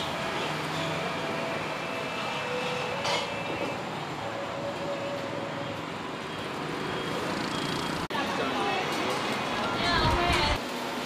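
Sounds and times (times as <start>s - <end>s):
busy outdoor market noise: 0.0s - 11.0s.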